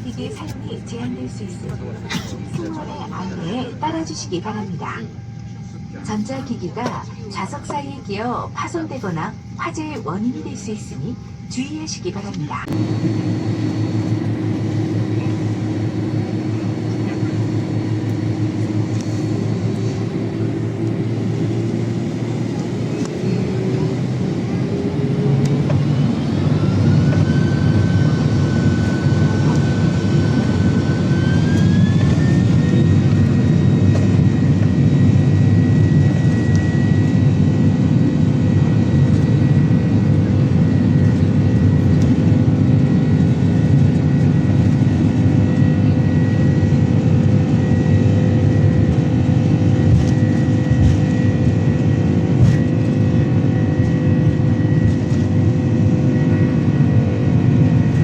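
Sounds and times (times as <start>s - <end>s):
jet engine rumble: 0.0s - 58.0s
jet engine whine rising: 0.0s - 58.0s.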